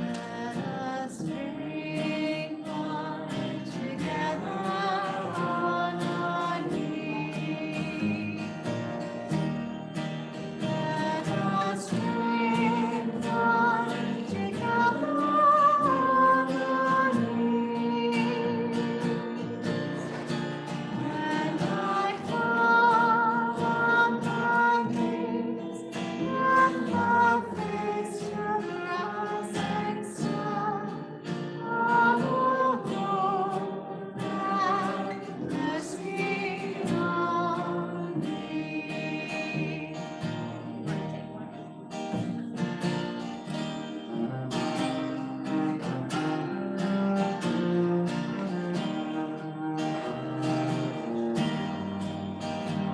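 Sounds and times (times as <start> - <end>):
person singing with vibrato: 0.0 - 52.9
strummed acoustic guitar: 0.0 - 52.9.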